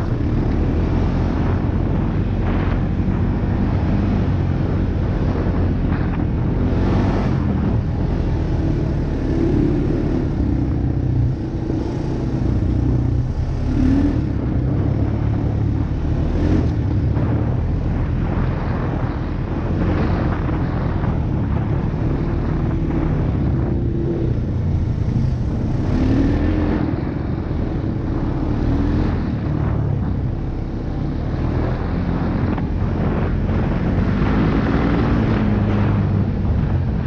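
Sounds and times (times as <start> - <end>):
atv engine revving: 0.0 - 37.0
wind rumbling on microphone: 0.0 - 37.0.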